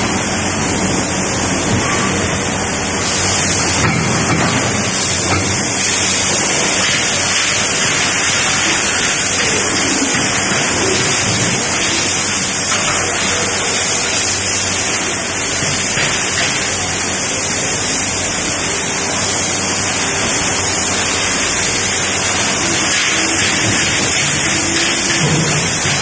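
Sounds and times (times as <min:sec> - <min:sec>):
machine hissing loudly: 0:00.0 - 0:26.0
mist spraying: 0:00.3 - 0:26.0.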